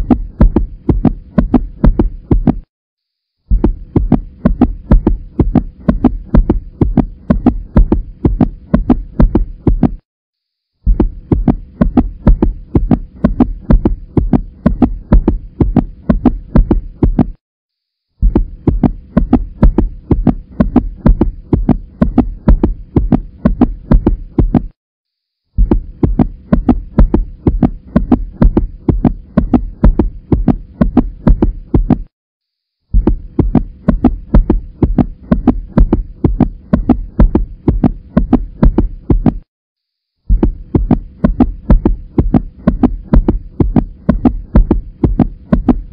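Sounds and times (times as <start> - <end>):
fast deep thumps: 0.0 - 2.7, 3.5 - 10.0, 10.8 - 17.4, 18.2 - 24.8, 25.6 - 32.1, 32.9 - 39.5, 40.3 - 45.9.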